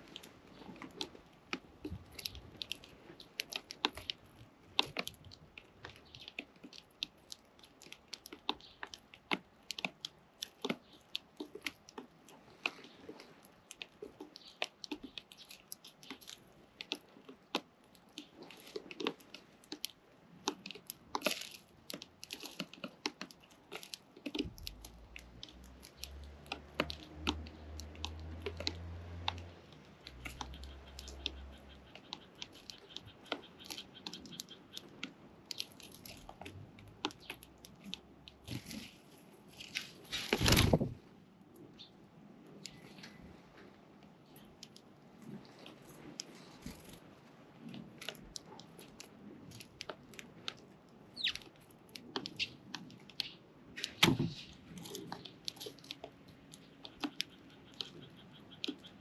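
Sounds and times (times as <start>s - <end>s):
chicks pecking and cracking feed: 0.0s - 41.0s, 44.3s - 59.0s.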